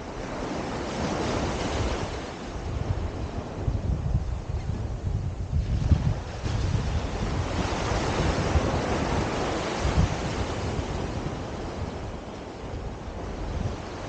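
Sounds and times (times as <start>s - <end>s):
ocean surf breaking: 0.0s - 4.1s, 5.4s - 14.0s
wind buffeting microphone: 0.0s - 14.0s.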